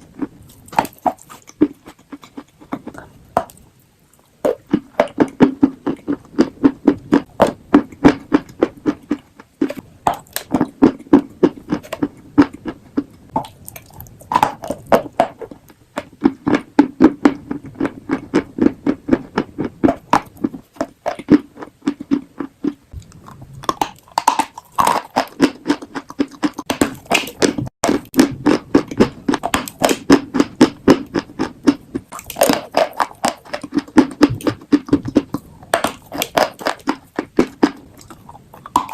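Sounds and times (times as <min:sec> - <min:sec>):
chalk crunching while chewed: 0:00.0 - 0:38.9.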